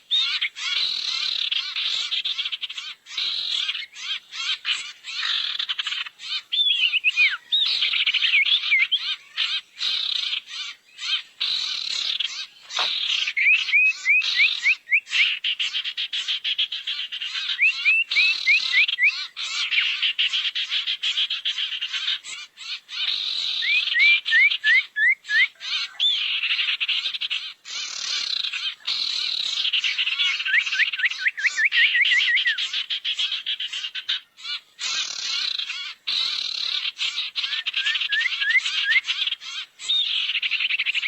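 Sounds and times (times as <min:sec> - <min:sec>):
harsh chattering bird calls: 0:00.1 - 0:41.0.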